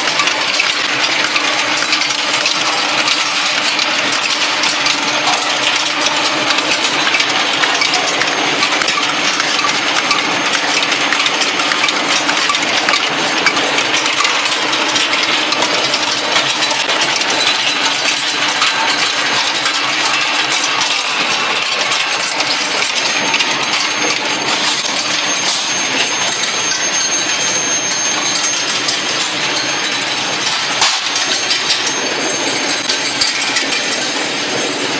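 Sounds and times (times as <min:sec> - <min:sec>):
rolling mill clattering: 0:00.0 - 0:34.9.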